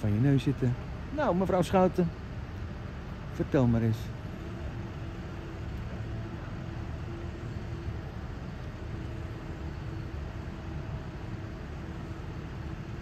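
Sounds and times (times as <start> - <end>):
faint hum: 0.0 - 13.0
traffic rumble: 0.0 - 13.0.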